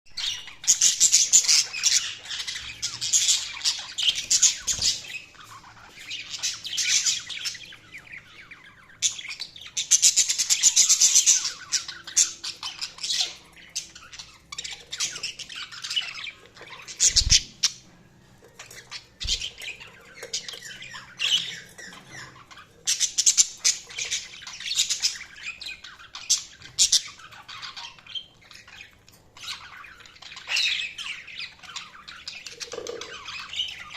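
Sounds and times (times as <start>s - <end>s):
budgies chirping: 0.1s - 33.9s.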